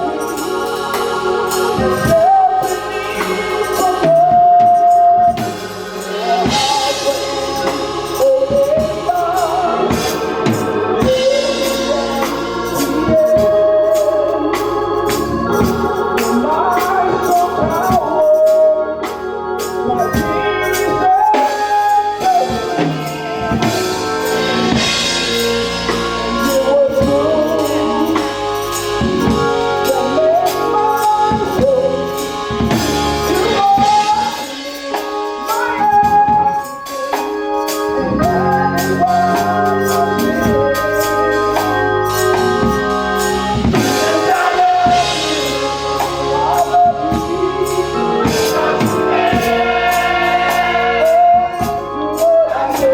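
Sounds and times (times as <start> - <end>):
drums: 0.0 - 52.9
gospel singing: 0.0 - 52.9
organ: 0.0 - 52.9
tambourine: 0.0 - 52.9.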